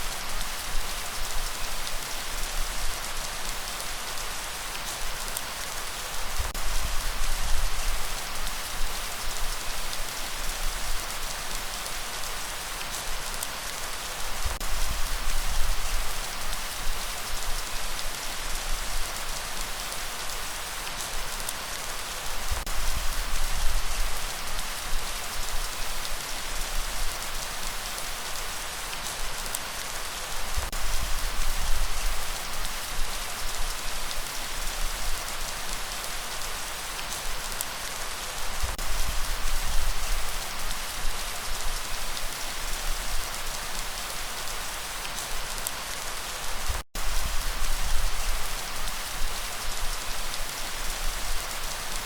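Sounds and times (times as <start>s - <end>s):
dense rain hissing: 0.0s - 52.0s.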